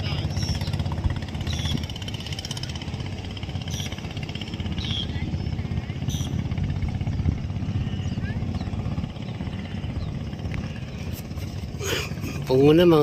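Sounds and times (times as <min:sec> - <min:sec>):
engine pulsing rumble: 0:00.0 - 0:13.0.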